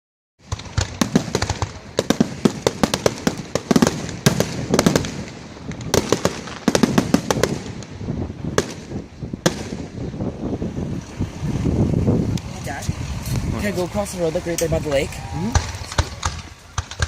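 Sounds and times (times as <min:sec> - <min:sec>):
continuous low rumble: 0:00.4 - 0:17.0
fireworks bangs and crackles: 0:00.4 - 0:17.0.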